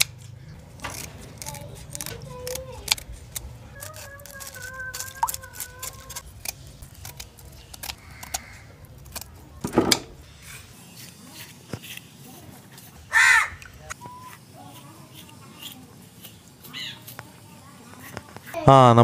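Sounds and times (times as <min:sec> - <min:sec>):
scissors scraping fish scales: 0:00.0 - 0:09.4, 0:10.2 - 0:18.6.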